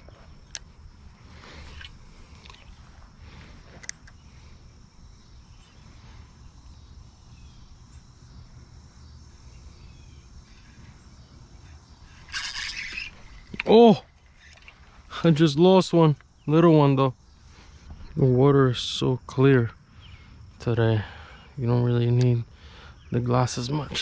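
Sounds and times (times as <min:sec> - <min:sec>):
faint high insect drone: 0:00.0 - 0:24.0.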